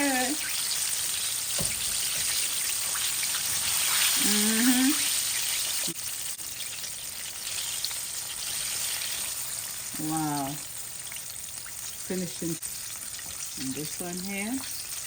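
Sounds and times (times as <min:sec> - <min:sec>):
chicken wings sizzling in oil: 0:00.0 - 0:15.0.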